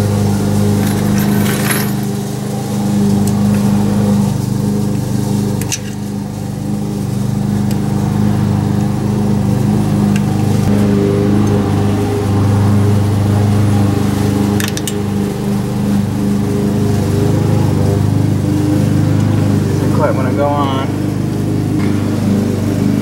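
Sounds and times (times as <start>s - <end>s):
motor drone: 0.0s - 23.0s.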